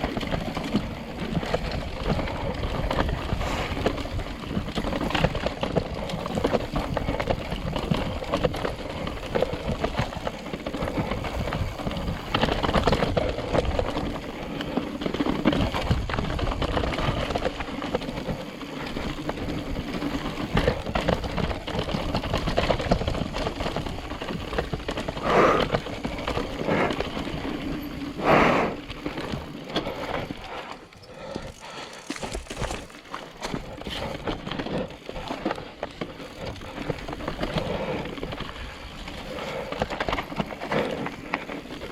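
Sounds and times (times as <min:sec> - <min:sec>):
bicycle chain and frame rattling: 0:00.0 - 0:41.9
tyres crunching over rocks: 0:00.0 - 0:41.9.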